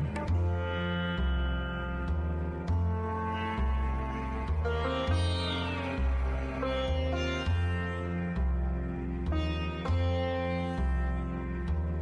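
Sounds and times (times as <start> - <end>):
plucked string melody: 0.0 - 12.0
sustained low bass notes: 0.0 - 12.0.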